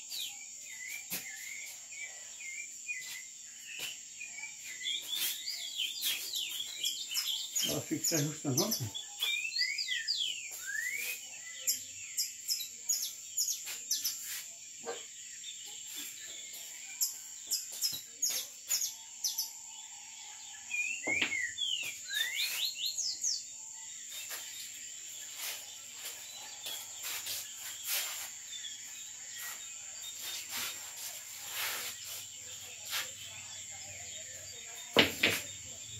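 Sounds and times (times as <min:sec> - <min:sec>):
bird chirping: 0:00.0 - 0:35.9.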